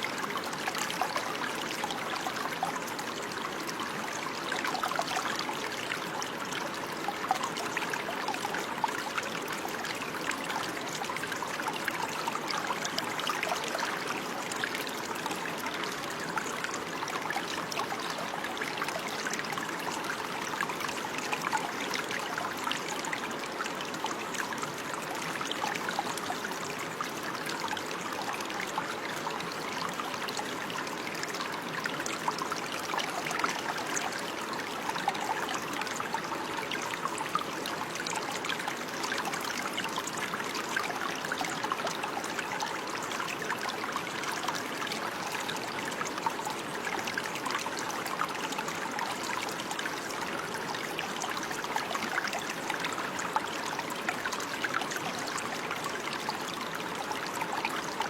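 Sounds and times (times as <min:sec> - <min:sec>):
water babbling and trickling: 0:00.0 - 0:58.0.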